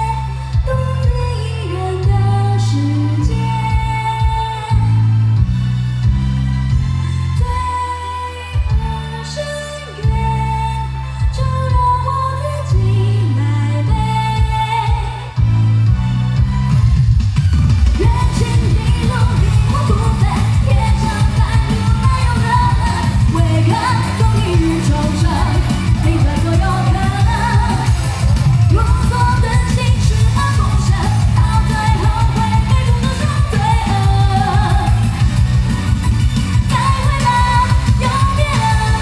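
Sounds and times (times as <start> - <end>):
woman singing into microphone: 0.0 - 5.0, 7.4 - 15.4, 18.0 - 35.2, 36.7 - 39.0
pop music with pulsing beat: 0.0 - 39.0.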